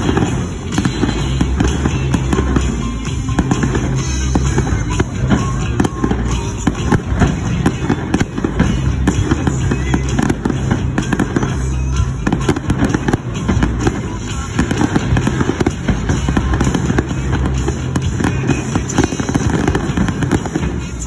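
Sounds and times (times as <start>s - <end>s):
fireworks booming and crackling: 0.0s - 21.0s
music playing: 0.0s - 21.0s.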